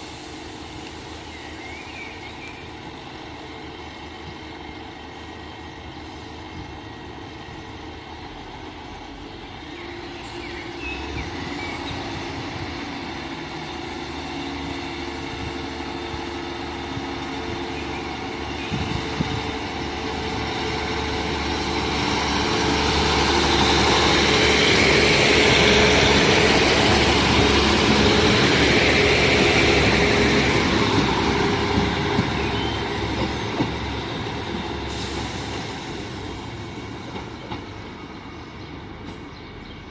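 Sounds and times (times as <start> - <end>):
diesel train engines: 0.0 - 39.9.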